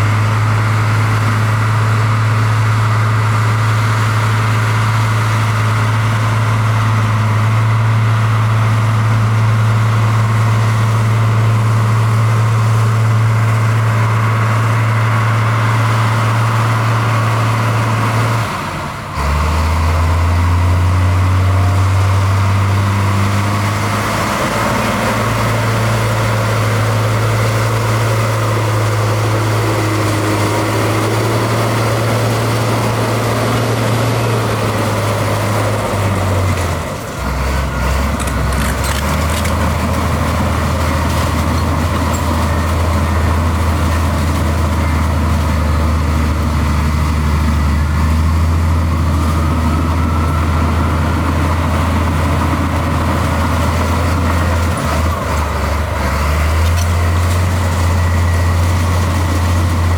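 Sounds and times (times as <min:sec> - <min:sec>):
heavy machinery engine humming: 0:00.0 - 0:59.9.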